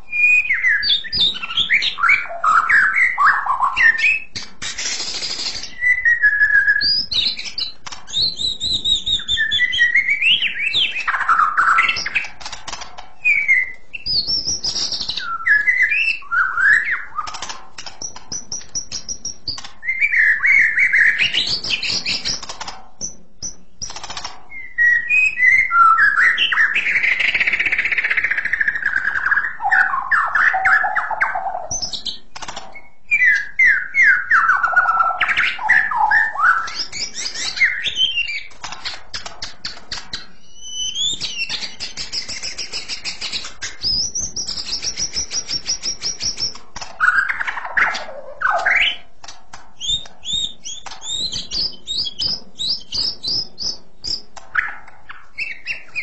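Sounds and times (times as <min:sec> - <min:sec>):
bird singing whistled phrases: 0:00.1 - 0:04.3, 0:05.0 - 0:12.2, 0:13.2 - 0:17.4, 0:18.8 - 0:22.4, 0:24.5 - 0:32.2, 0:32.8 - 0:38.5, 0:40.4 - 0:49.1, 0:49.8 - 0:54.3, 0:55.1 - 0:56.0.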